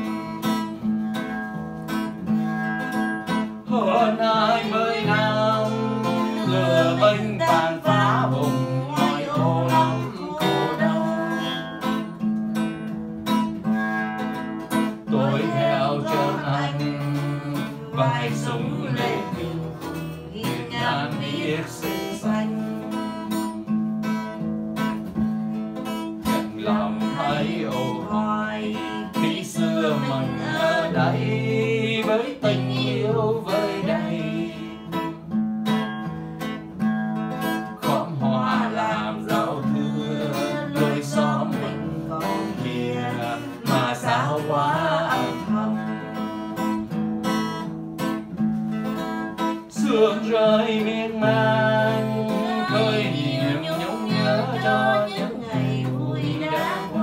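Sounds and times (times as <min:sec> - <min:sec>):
acoustic guitar strummed and picked: 0:00.0 - 0:57.0.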